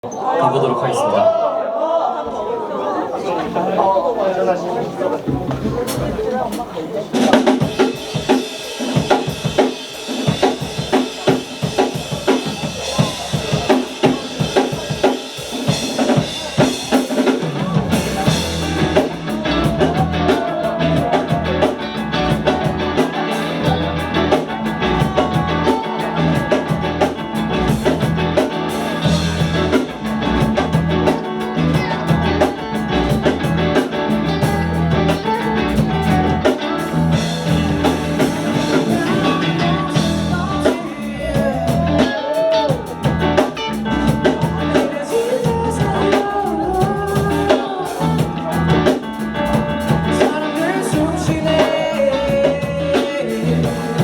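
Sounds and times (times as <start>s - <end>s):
band playing: 2.3s - 54.0s
drum kit playing: 3.4s - 54.0s.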